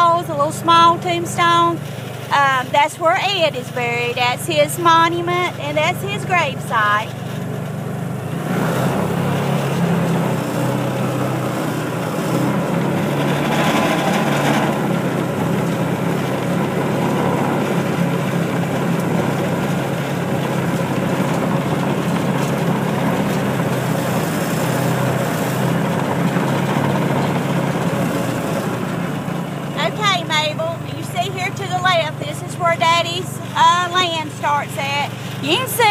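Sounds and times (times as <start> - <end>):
driving noise: 0.0 - 35.9
vehicle engine running: 0.0 - 35.9.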